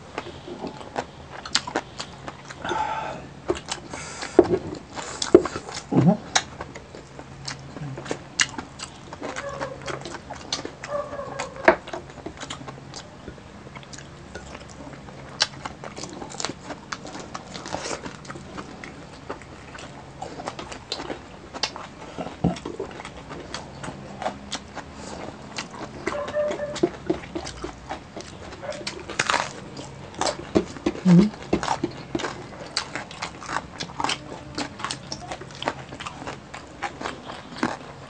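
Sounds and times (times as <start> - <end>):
wet chewing: 0.0 - 38.0.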